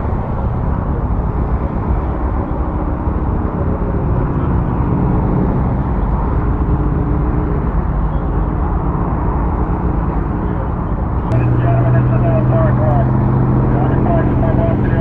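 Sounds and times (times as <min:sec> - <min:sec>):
motorcycle engine drone: 0:00.0 - 0:15.0.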